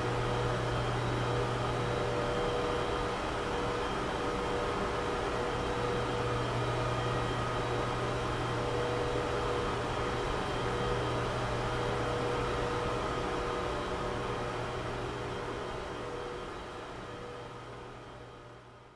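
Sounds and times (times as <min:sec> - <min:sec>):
machine hum with hiss: 0:00.0 - 0:18.9.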